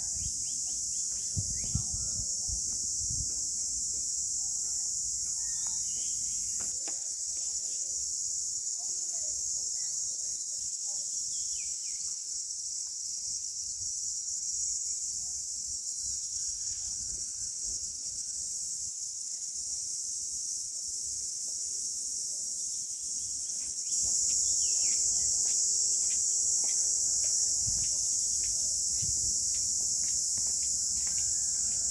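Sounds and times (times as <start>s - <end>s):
cicadas buzzing: 0.0s - 31.9s.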